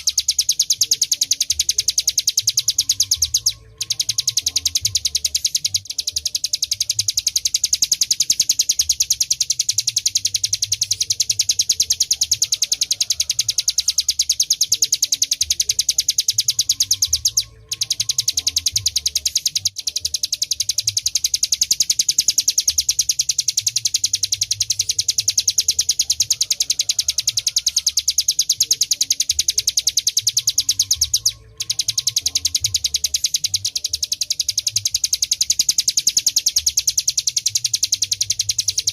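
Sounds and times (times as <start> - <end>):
bird singing a drilling trill: 0.0 - 38.9.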